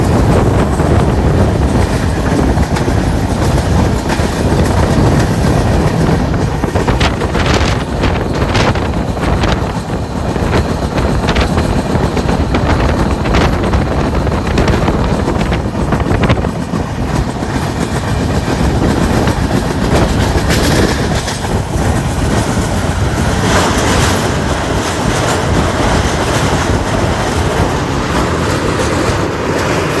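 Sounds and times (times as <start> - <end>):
clickety-clack wheel knocks: 0.0 - 30.0
train wheels rumbling on rail: 0.0 - 30.0.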